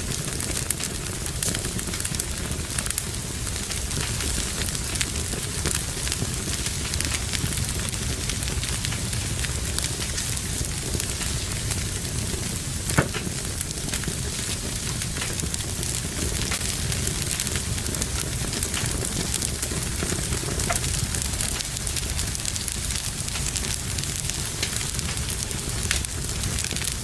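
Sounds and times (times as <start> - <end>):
fire popping: 0.0 - 27.0
wood fire crackling: 0.0 - 27.0.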